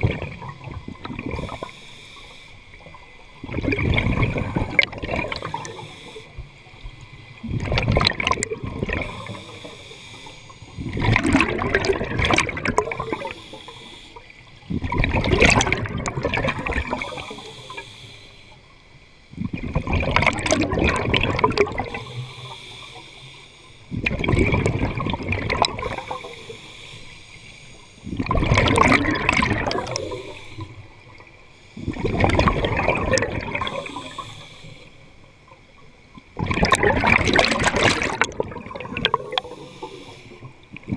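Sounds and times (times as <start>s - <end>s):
exhaled bubbles underwater: 0.0s - 2.0s, 2.7s - 18.0s, 19.3s - 23.0s, 23.9s - 27.0s, 27.7s - 40.9s.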